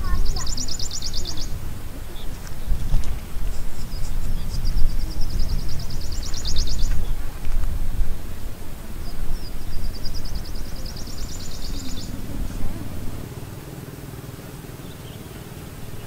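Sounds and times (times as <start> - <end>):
uneven low rumble: 0.0 - 15.0
songbird singing trills: 0.0 - 16.0.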